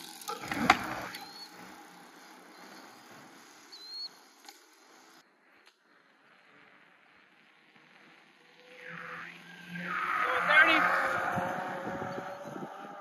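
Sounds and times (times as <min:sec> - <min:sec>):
electric bike tyre and motor noise: 0:00.0 - 0:13.0.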